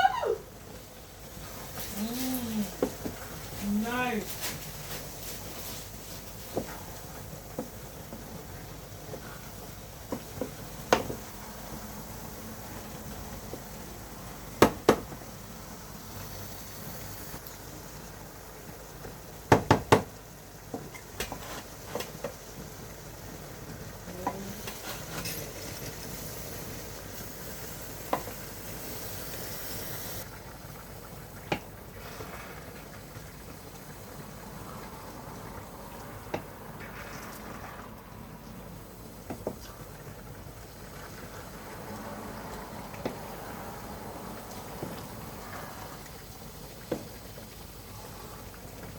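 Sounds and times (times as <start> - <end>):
food sizzling in a pot: 0.0 - 48.9.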